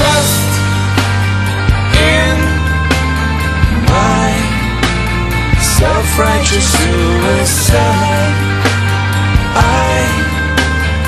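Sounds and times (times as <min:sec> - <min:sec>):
heavy rock instrumental music: 0:00.0 - 0:11.0.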